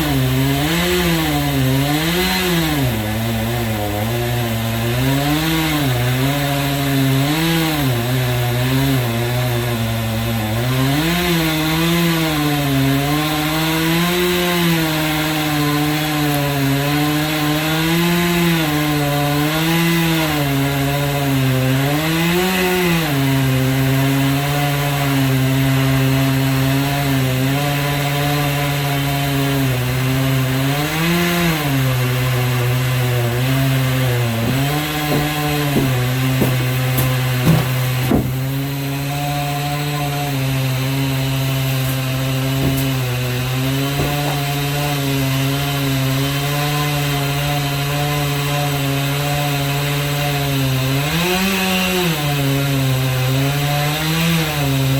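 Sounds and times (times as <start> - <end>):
chainsaw ripping a log: 0.0 - 54.9.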